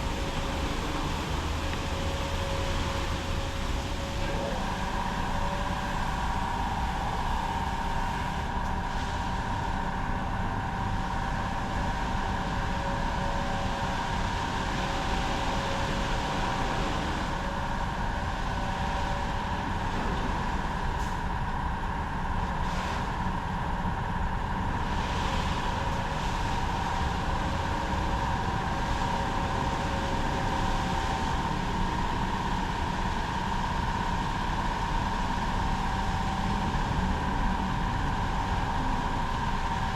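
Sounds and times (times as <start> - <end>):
car wash motor hum and whine: 0.0 - 39.9.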